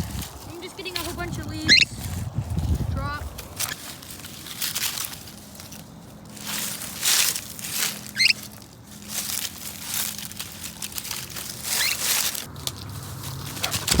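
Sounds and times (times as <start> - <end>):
dry leaves crunching: 0.0 - 14.0.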